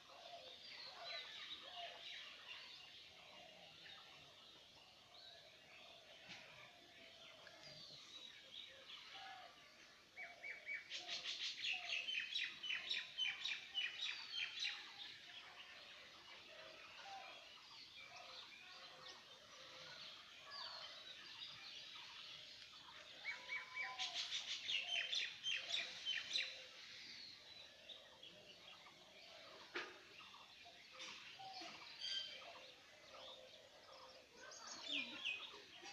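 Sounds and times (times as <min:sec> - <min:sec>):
songbird chirps and trills: 0:00.0 - 0:35.9.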